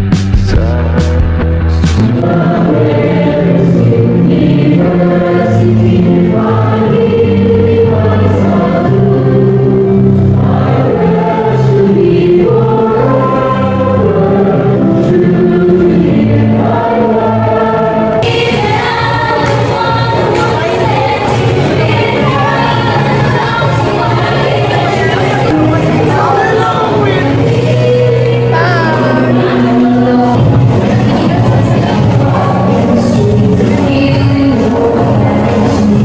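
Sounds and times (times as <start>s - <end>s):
choir singing long held notes: 2.0s - 36.0s.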